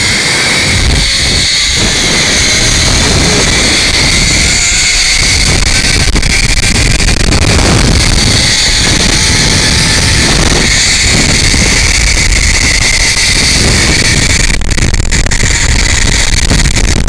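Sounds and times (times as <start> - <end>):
pulley wheels whirring on cable: 0.0 - 17.0
wind rumble on microphone: 0.0 - 17.0.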